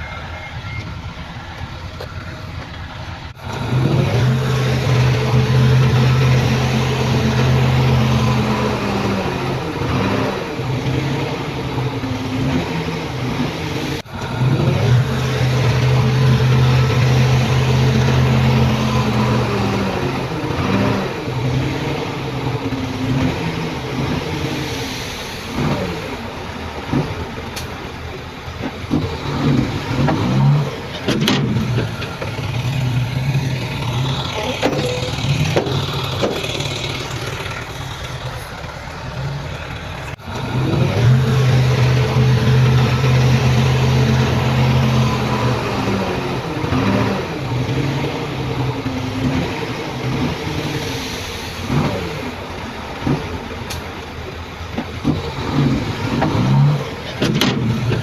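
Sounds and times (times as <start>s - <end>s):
heavy diesel machinery engines revving: 0.0s - 58.0s.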